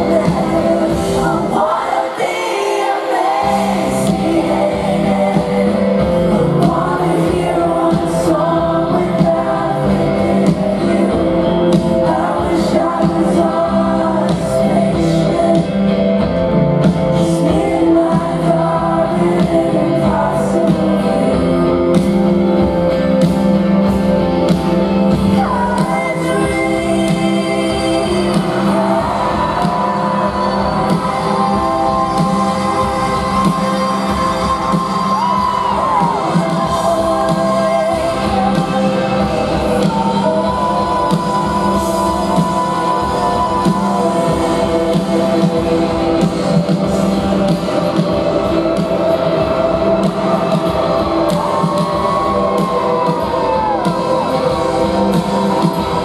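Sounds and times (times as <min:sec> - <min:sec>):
electric guitar: 0:00.0 - 0:56.0
live rock band playing: 0:00.0 - 0:56.0
woman singing lead: 0:00.0 - 0:56.0.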